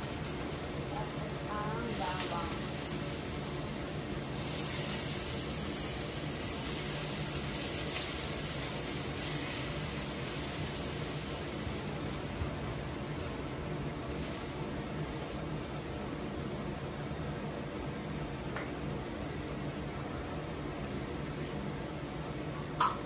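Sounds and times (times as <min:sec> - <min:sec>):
onion sizzling in oil: 0:00.0 - 0:23.0.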